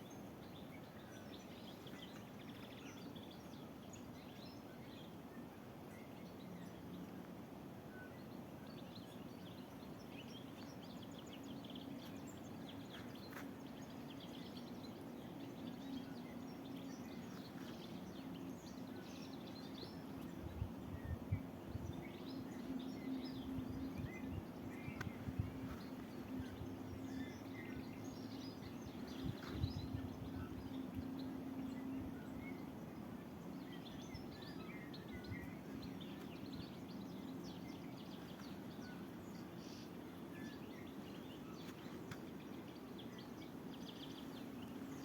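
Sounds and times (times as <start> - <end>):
low background hum: 0.0 - 45.0
small birds singing and chirping: 0.0 - 45.0.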